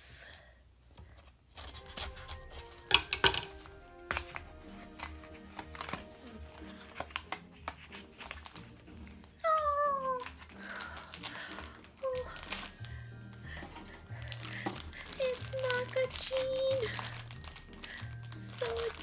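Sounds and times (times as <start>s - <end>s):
cardboard and plastic rustling: 0.9s - 19.0s
soft background music: 1.6s - 19.0s.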